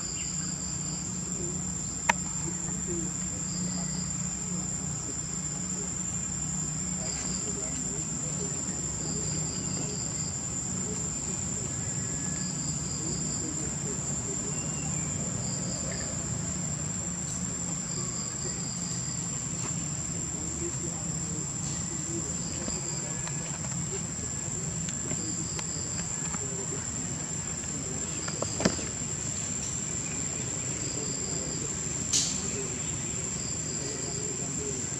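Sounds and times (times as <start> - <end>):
insect chirps: 0.0 - 34.9
insect high-pitched trill: 0.0 - 34.9.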